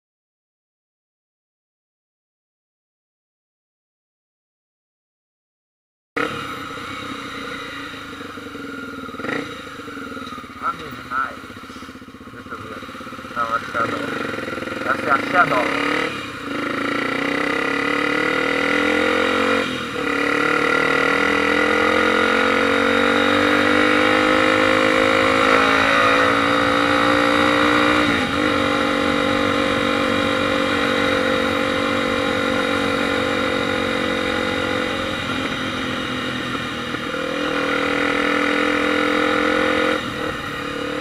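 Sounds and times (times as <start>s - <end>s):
motorcycle engine accelerating: 6.2s - 41.0s.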